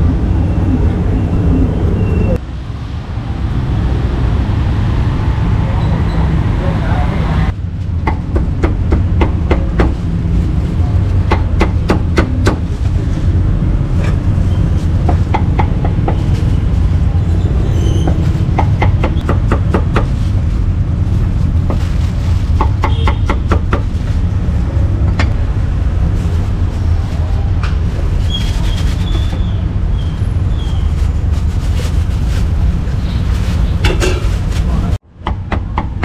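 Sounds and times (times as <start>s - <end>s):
low rumble of street traffic: 0.0s - 36.0s.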